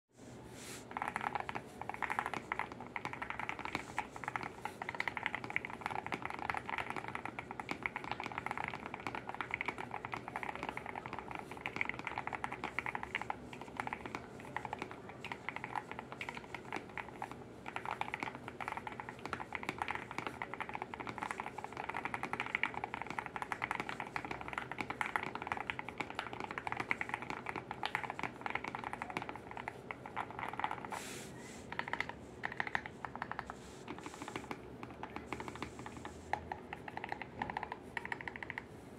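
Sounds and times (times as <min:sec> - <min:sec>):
mechanical keyboard typing: 0:00.9 - 0:31.0, 0:31.6 - 0:38.7.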